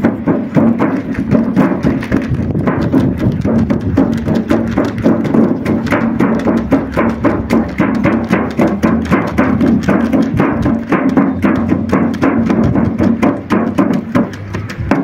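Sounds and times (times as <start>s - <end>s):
fast rhythmic drum strikes: 0.0s - 15.0s.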